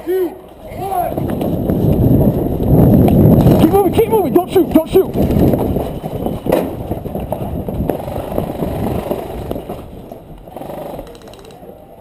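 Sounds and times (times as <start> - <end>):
gear rattling and rubbing: 1.0 - 11.6.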